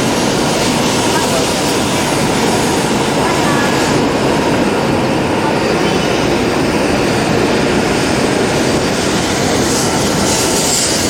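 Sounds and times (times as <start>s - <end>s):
high-speed train rushing: 0.0s - 11.0s.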